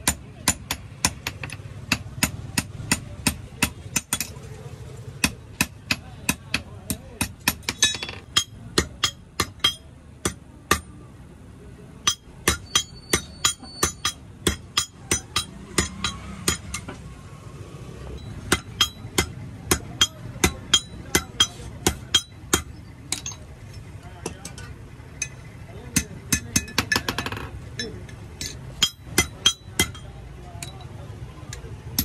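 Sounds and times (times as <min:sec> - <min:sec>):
hammer striking iron on anvil: 0:00.0 - 0:04.4, 0:05.2 - 0:11.0, 0:12.0 - 0:17.0, 0:18.2 - 0:23.5, 0:24.2 - 0:30.8.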